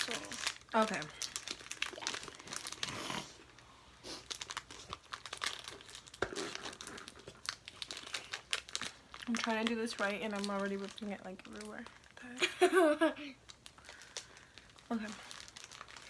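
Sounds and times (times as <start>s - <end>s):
wrapper ripping: 0.0s - 12.2s, 13.5s - 16.0s
plastic wrapper crinkling: 0.0s - 12.7s, 13.4s - 16.0s.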